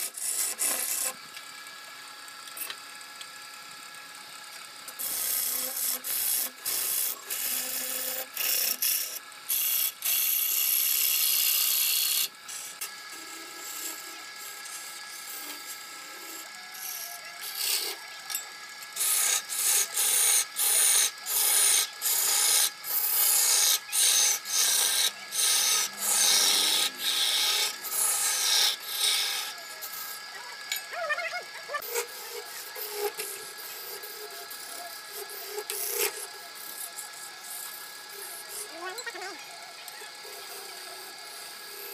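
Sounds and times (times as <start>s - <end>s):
lathe tool scraping wood: 0.0s - 1.2s, 5.0s - 30.7s, 31.4s - 38.8s
lathe faint running tone: 0.1s - 41.9s.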